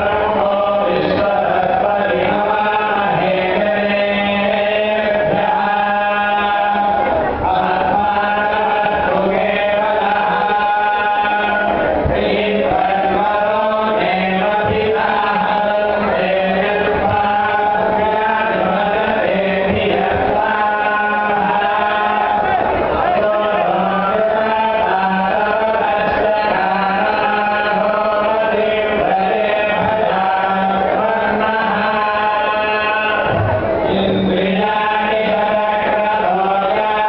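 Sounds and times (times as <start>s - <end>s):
men chanting a hymn: 0.0s - 37.0s.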